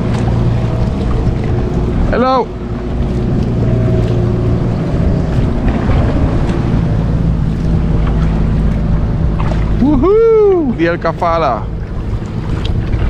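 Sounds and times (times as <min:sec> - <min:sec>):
motorboat engine droning: 0:00.0 - 0:13.0
wind buffeting microphone: 0:00.0 - 0:13.0.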